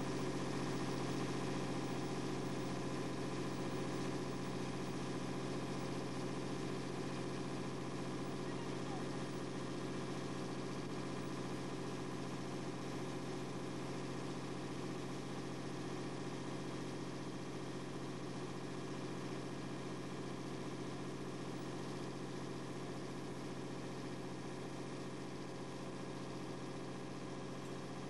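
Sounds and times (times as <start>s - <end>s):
engine droning steadily: 0.0s - 28.0s.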